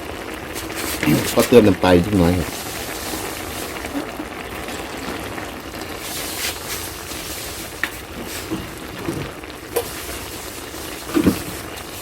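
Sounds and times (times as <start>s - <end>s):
food simmering and sizzling in pot: 0.0s - 12.0s.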